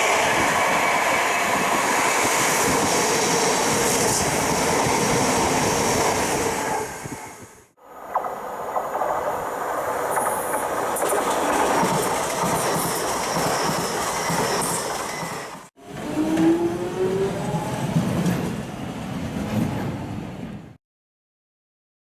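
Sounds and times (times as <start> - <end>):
passenger train passing on rails: 0.0 - 20.8.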